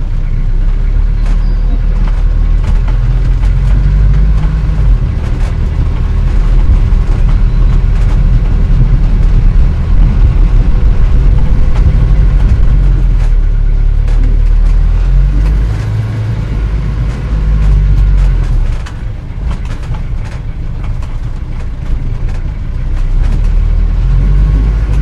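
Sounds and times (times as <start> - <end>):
car engine rumble: 0.0 - 25.0
clicks and rattles: 1.2 - 16.1, 17.0 - 23.7.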